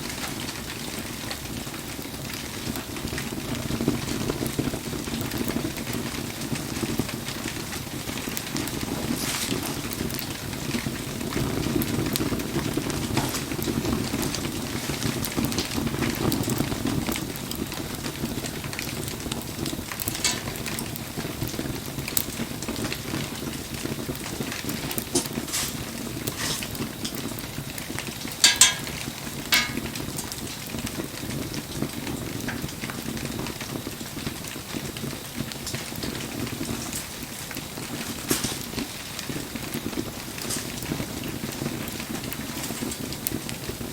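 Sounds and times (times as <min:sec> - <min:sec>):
bonfire crackling and popping: 0:00.0 - 0:43.9.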